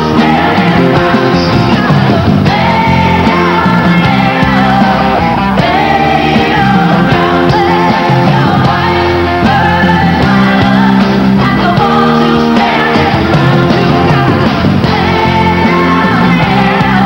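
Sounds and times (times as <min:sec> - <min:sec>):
live band playing: 0:00.0 - 0:17.0
women singing together: 0:00.0 - 0:17.0.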